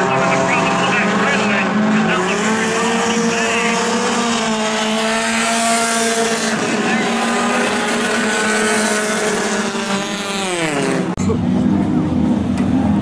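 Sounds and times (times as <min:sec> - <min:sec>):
tyres humming: 0:00.0 - 0:11.2
race car engines running: 0:00.0 - 0:13.0.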